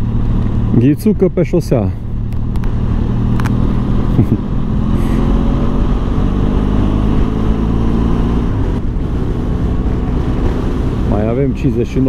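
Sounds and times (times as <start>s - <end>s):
wind rumble on microphone: 1.7s - 12.0s.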